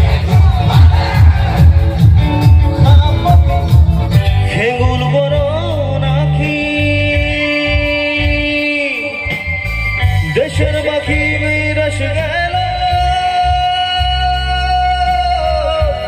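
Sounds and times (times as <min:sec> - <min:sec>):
electric guitar: 0:00.0 - 0:16.0
keyboard: 0:00.0 - 0:16.0
man singing into a microphone: 0:00.0 - 0:16.0
steady bass beat: 0:00.0 - 0:16.0.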